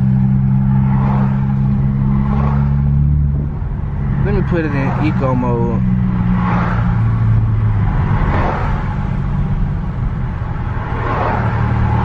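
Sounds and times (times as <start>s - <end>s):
engine and road drone: 0.0s - 12.0s.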